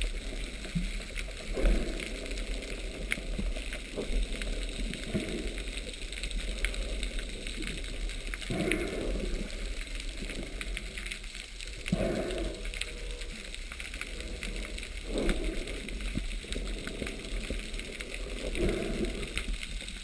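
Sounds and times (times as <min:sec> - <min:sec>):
underwater crackle of clicks: 0:00.0 - 0:20.0
water swishing: 0:00.0 - 0:20.0.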